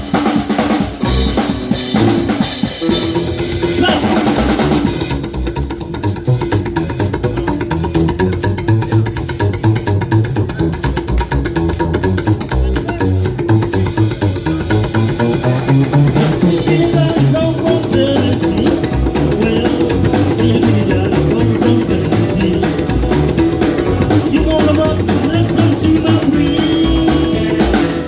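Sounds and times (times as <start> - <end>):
drum kit playing: 0.0 - 28.0
guitar: 0.0 - 28.0.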